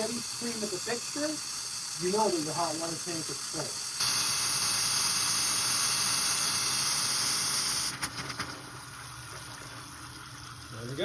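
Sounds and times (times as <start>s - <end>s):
faucet hissing air: 0.0s - 11.0s
faucet sputtering: 0.0s - 11.0s
water flowing from faucet: 0.0s - 11.0s.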